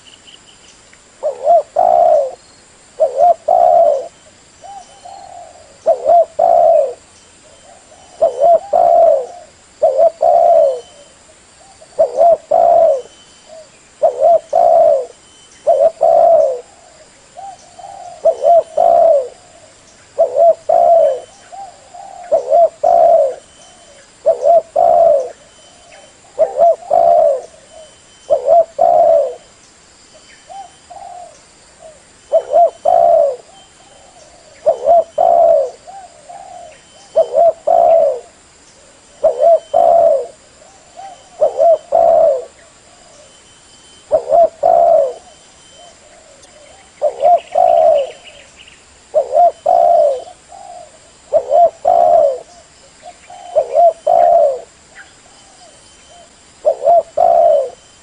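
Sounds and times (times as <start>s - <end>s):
dove cooing: 1.2s - 2.4s, 3.0s - 29.5s, 30.5s - 43.4s, 44.0s - 48.5s, 49.1s - 58.0s.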